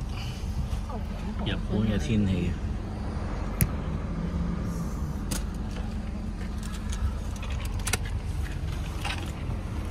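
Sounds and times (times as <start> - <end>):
car engine hum inside cabin: 0.0 - 9.9.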